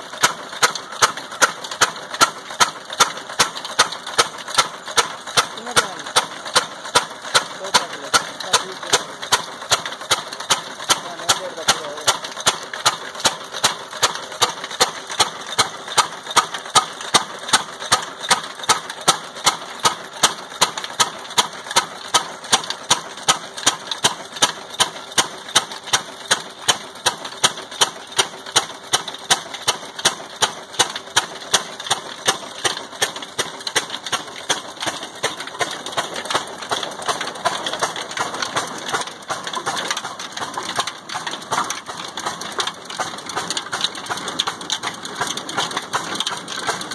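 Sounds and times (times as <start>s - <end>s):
belts and pulleys clattering: 0.0s - 46.9s
diesel engine running slowly: 0.0s - 46.9s.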